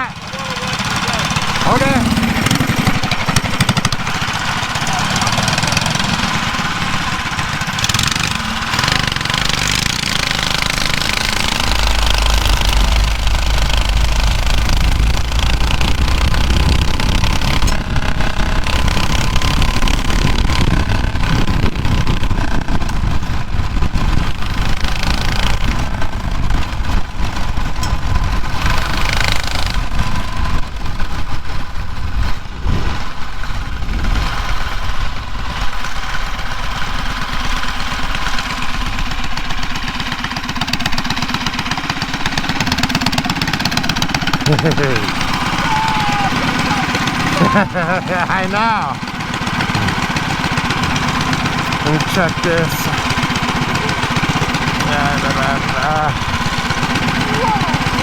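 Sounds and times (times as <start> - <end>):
small bike engine running: 0.0 - 58.0.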